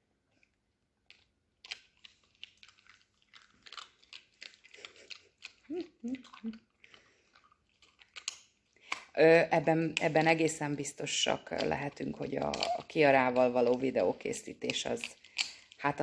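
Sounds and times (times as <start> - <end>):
dog gnawing and crunching chew: 0.3 - 9.2, 9.8 - 16.0.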